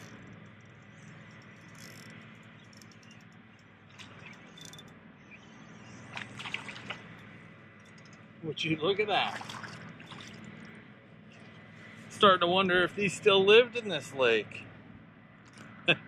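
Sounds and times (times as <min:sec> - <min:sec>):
faint lake water: 0:00.0 - 0:14.7.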